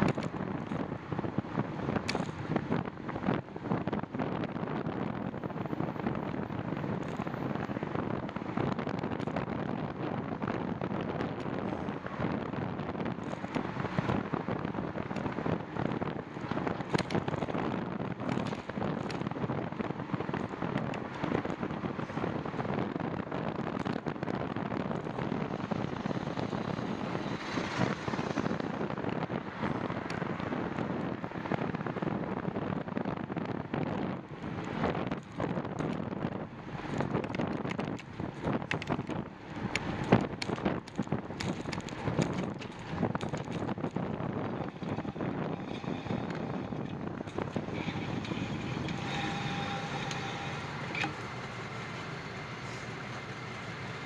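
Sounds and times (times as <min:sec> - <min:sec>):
crackles and knocks from riding: 0:00.0 - 0:54.0
wind buffeting microphone: 0:00.0 - 0:54.0.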